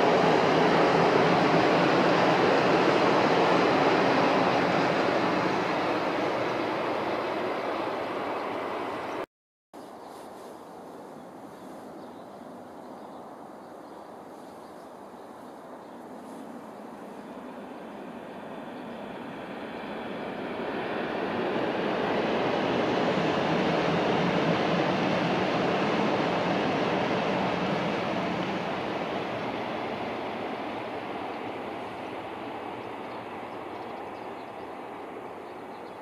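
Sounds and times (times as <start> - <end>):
high-speed train rushing past: 0.0 - 9.3, 10.1 - 36.0.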